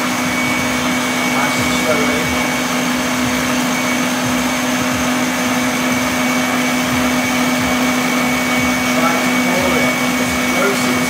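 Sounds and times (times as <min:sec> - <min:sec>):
stand mixer whisking: 0:00.0 - 0:11.0.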